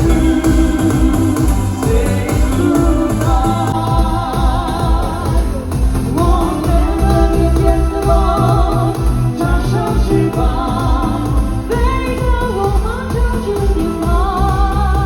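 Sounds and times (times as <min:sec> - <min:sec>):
musical accompaniment with heavy bass: 0:00.0 - 0:15.0
person singing with vibrato: 0:00.0 - 0:15.0.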